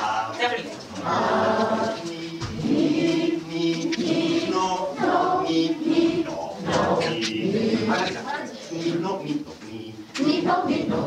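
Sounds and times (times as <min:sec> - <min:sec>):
operatic singing: 0:00.9 - 0:08.1, 0:08.7 - 0:11.0.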